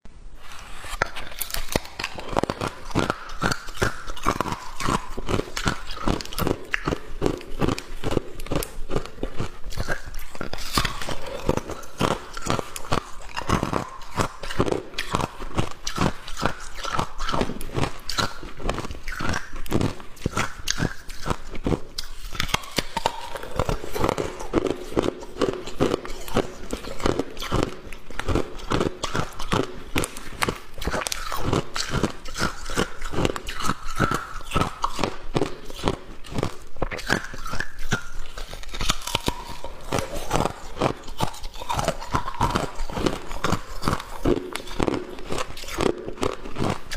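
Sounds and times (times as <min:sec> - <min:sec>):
ice crunching while chewed: 0:00.5 - 0:46.9.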